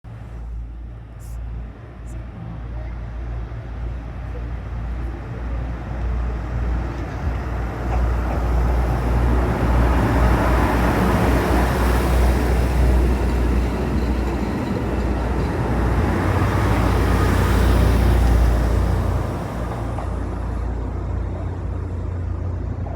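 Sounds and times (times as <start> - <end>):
train rumbling past: 0.1 - 22.9.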